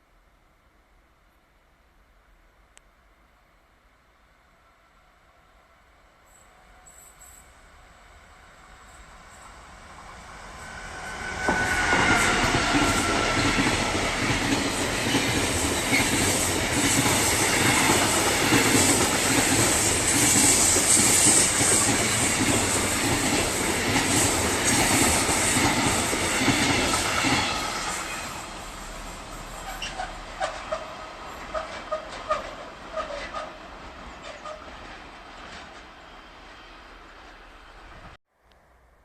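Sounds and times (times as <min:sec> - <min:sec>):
train passing: 0:04.2 - 0:38.9.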